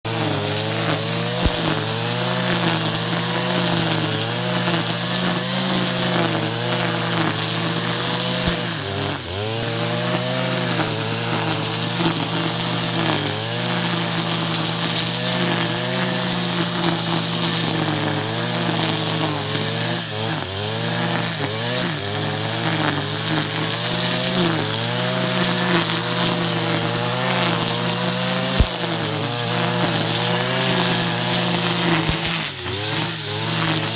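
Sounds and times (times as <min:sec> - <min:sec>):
brushcutter engine running: 0:00.1 - 0:33.9.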